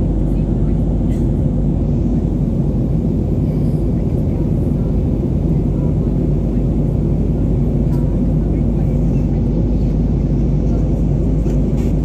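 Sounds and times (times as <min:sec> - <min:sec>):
airflow over fuselage: 0:00.0 - 0:12.0
jet engines rumbling: 0:00.0 - 0:12.0.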